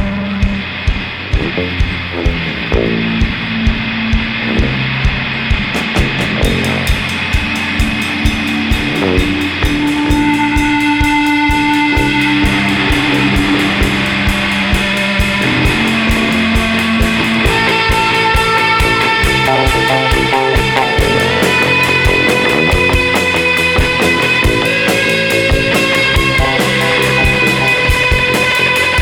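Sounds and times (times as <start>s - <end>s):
held guitar notes: 0.0s - 29.0s
rock band playing: 0.0s - 29.0s.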